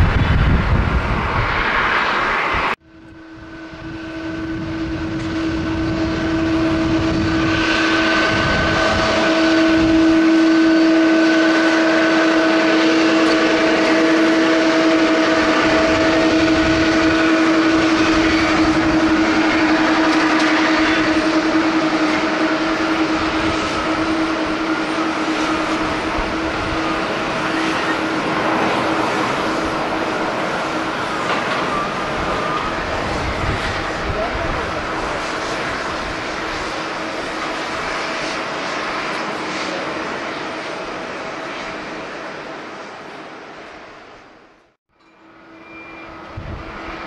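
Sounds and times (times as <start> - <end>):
jet engines rushing: 0.0 - 44.8
jet engine whine: 0.0 - 47.0.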